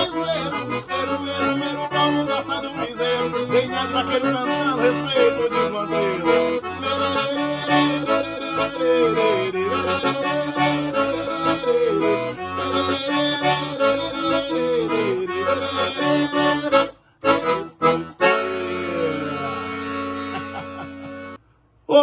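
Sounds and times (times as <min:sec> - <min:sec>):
accordion melody: 0:00.0 - 0:21.4.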